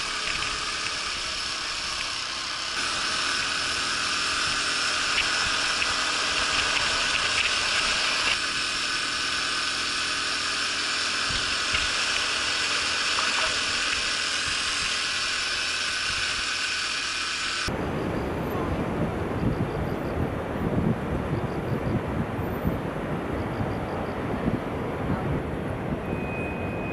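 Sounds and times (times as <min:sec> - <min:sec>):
motorcycle engine whine: 0:00.0 - 0:26.9.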